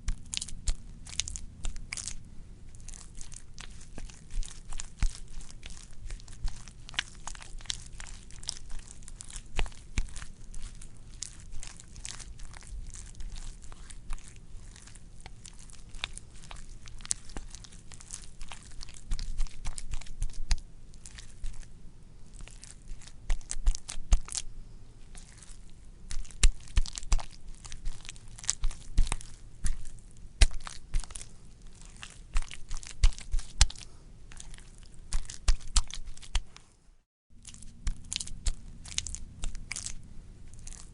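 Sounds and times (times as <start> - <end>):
wet squishy squelching: 0.0 - 36.7, 37.4 - 40.9.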